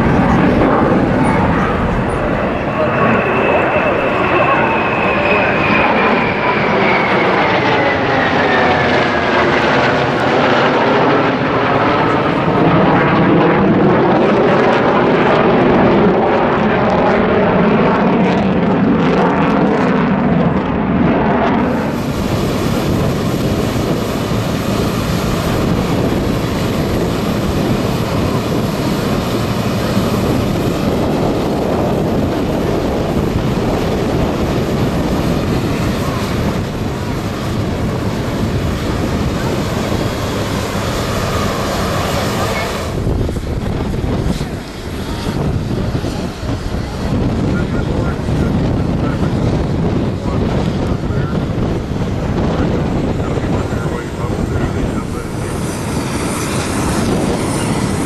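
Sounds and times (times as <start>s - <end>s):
jet engine whine passing overhead: 0.0s - 58.0s
steady rushing noise: 0.0s - 58.0s.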